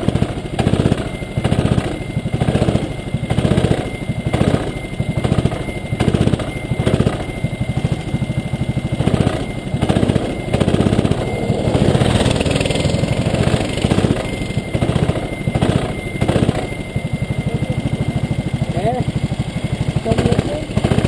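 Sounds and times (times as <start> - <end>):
kart engine running: 0.0 - 21.0.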